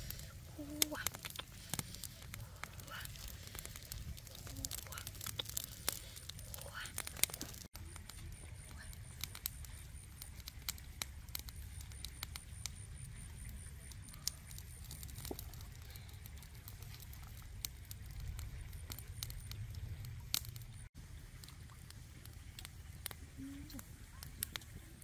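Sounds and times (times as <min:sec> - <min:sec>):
low steady rumble: 0:00.0 - 0:25.0
wood fire crackling and popping: 0:00.0 - 0:25.0.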